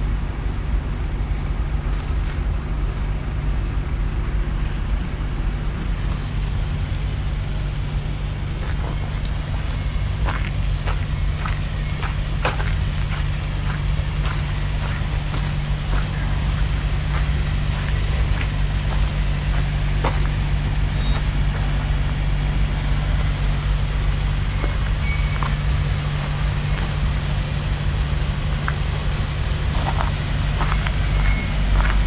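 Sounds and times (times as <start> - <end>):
engine running with low hum: 0.0 - 32.0.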